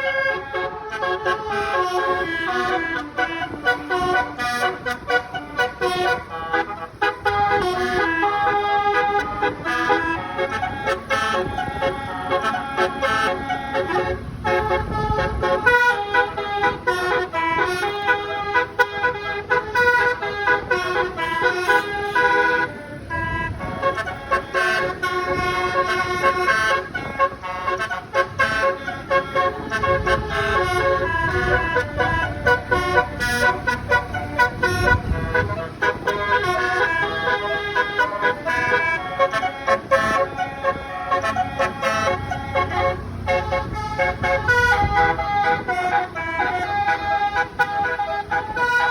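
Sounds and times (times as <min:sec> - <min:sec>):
bus air horns playing a tune: 0:00.0 - 0:48.9.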